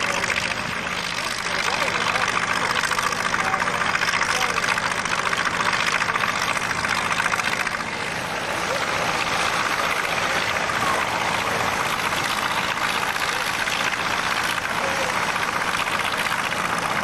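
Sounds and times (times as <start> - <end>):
radial aircraft engine running: 0.0 - 17.0.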